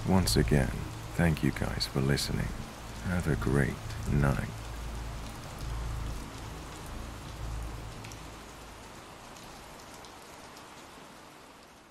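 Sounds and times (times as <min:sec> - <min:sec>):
steady rain falling: 0:00.0 - 0:11.9.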